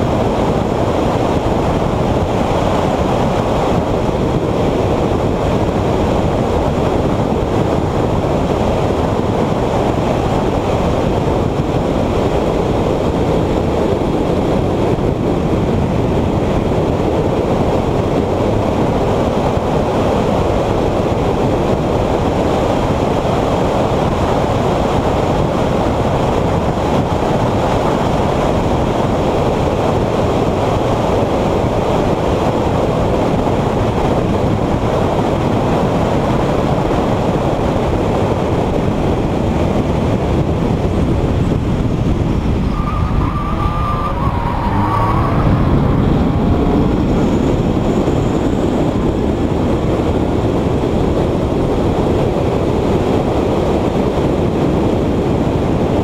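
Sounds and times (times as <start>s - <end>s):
car wind and road noise: 0.0s - 56.0s
wind buffeting microphone: 0.0s - 56.0s.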